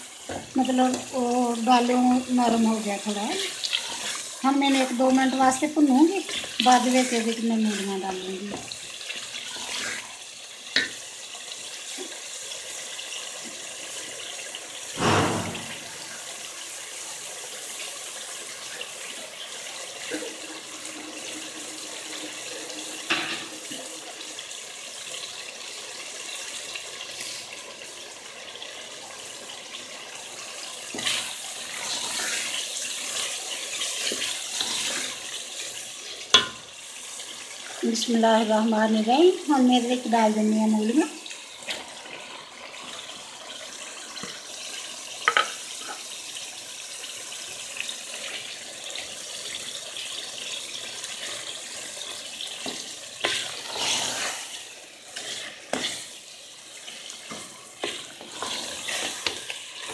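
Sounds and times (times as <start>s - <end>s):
masala sizzling in oil: 0.0s - 59.9s.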